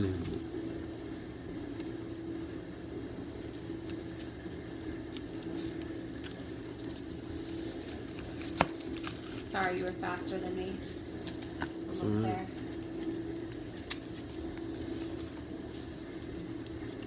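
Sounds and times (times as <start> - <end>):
electrical appliance hum: 0.0 - 17.0.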